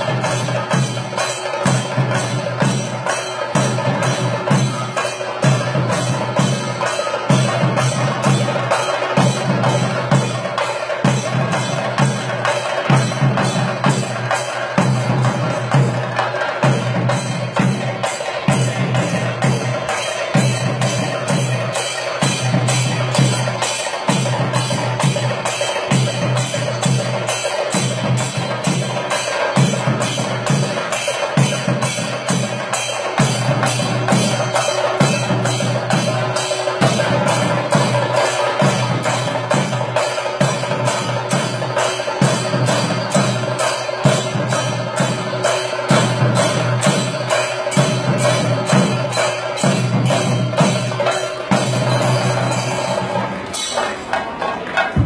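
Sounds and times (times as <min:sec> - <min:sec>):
hand cymbal strokes: 0:00.0 - 0:55.0.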